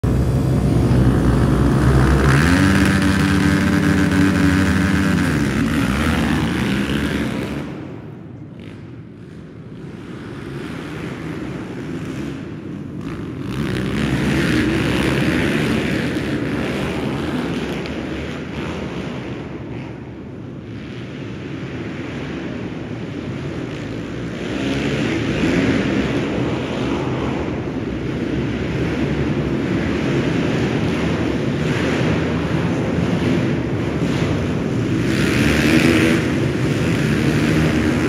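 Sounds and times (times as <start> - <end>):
pit bike engines revving: 0.0 - 38.0.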